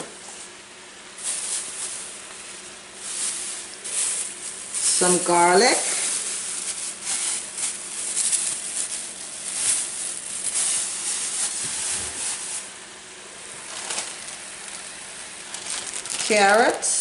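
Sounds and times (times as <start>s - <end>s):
steady hiss: 0.1s - 17.0s
plastic bag crinkling: 1.1s - 17.0s.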